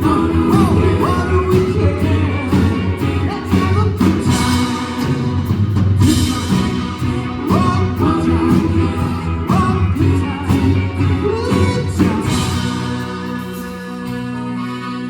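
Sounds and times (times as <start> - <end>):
group vocal harmonies: 0.0 - 15.0
pop-rock band playing: 0.0 - 15.0.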